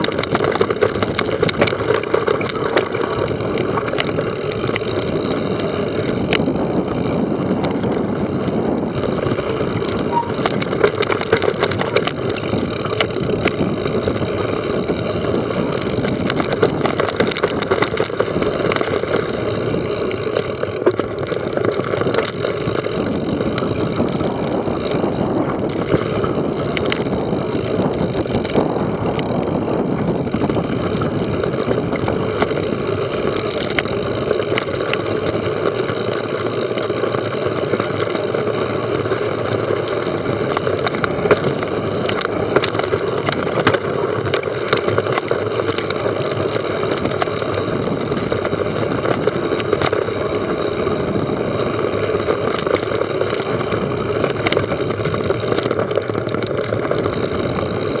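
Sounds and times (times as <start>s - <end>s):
bike clicks and rattles: 0.0s - 58.0s
mountain bike rolling on trail: 0.0s - 58.0s.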